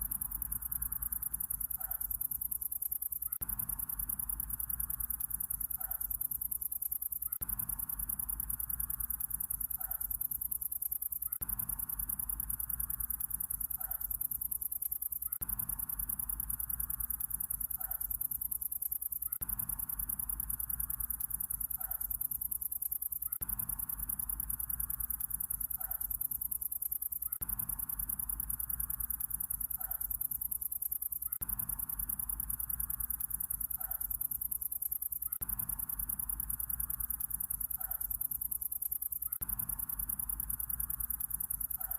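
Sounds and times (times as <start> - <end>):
insects high-pitched pulsing trill: 0.0 - 41.9.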